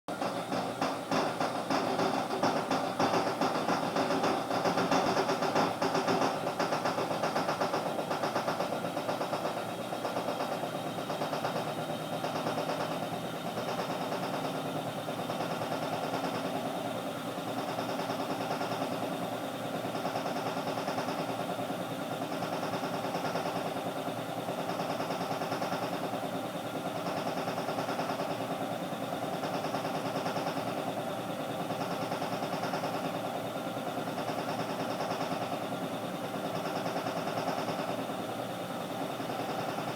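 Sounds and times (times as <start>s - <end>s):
washing machine running: 0.1s - 39.9s.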